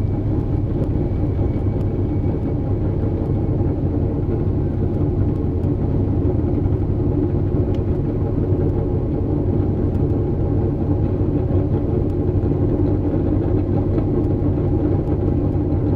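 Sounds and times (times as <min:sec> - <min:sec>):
race car engine idling: 0:00.0 - 0:15.9.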